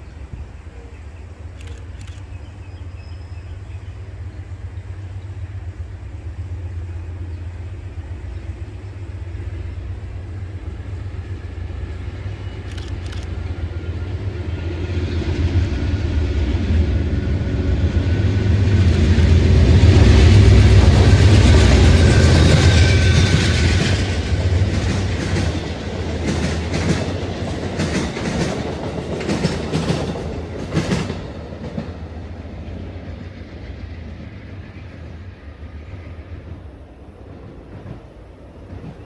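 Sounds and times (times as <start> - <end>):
passenger train passing: 0.0 - 39.0.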